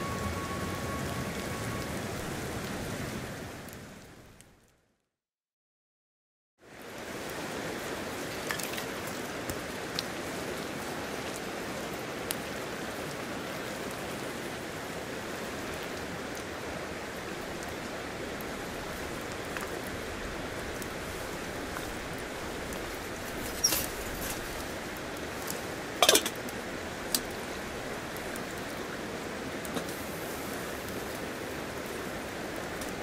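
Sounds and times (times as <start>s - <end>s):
river rushing: 0.0s - 4.2s, 6.7s - 33.0s.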